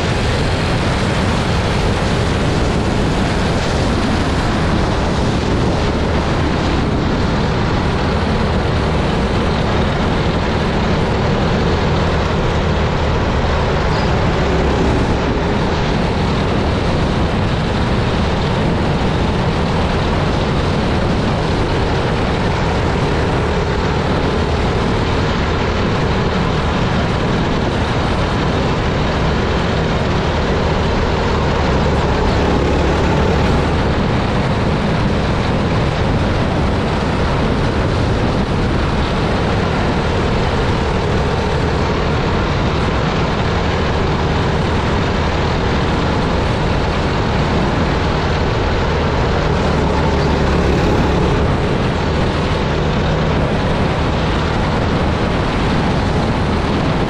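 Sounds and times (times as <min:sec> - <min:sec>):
kart engine running hard: 0:00.0 - 0:57.0
wind noise: 0:00.0 - 0:57.0.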